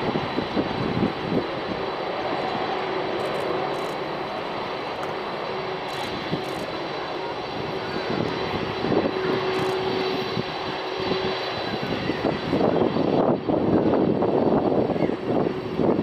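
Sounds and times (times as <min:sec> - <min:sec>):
jet engines roaring for takeoff: 0:00.0 - 0:16.0.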